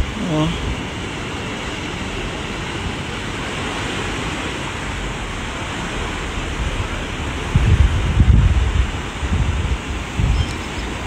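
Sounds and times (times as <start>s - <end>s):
surf washing against rocks: 0.0s - 11.0s
wind buffeting microphone: 0.0s - 11.0s.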